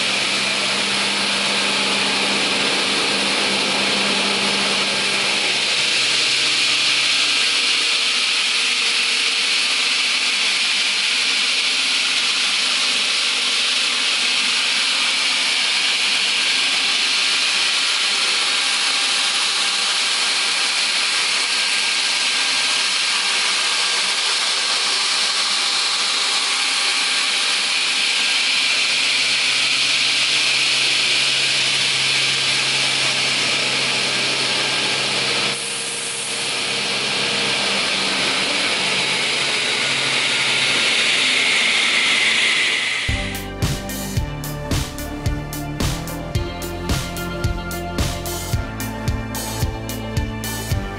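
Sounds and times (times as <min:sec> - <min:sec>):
saw blades spinning: 0:00.0 - 0:50.9.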